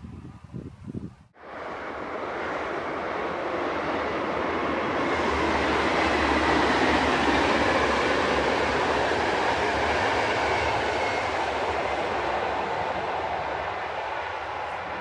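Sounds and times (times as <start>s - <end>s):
train wheels rumbling on rails: 1.4s - 15.0s.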